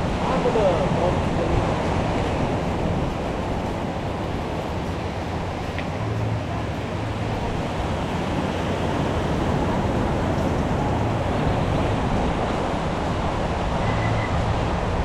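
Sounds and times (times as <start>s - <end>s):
street ambience rumble and hiss: 0.0s - 15.0s.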